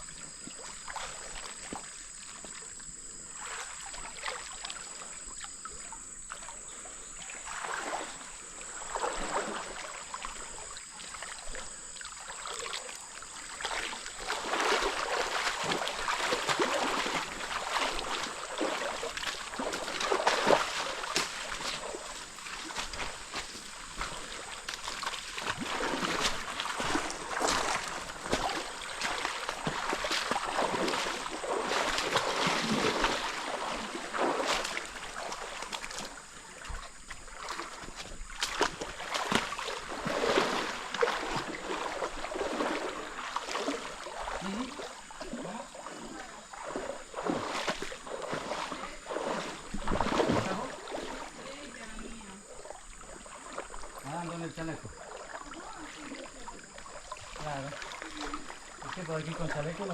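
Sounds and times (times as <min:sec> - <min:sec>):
running water: 0:00.0 - 0:59.9
water splashing from swimming: 0:00.0 - 0:59.9.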